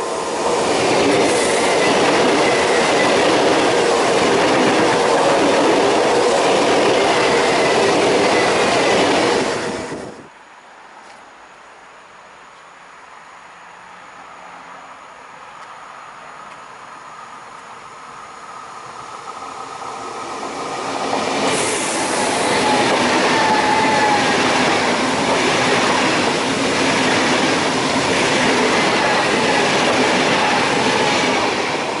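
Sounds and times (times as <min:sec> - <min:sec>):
high-speed train passing: 0:00.0 - 0:10.4, 0:13.6 - 0:32.0.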